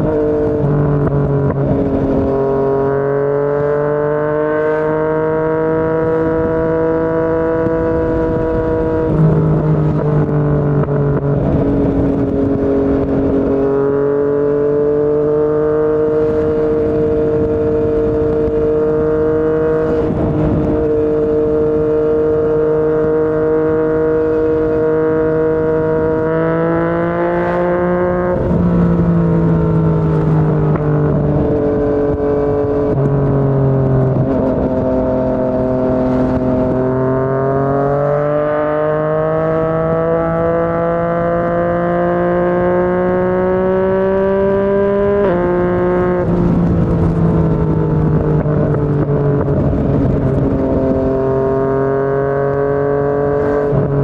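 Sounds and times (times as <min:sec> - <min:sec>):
motorcycle engine on the road: 0:00.0 - 0:54.0.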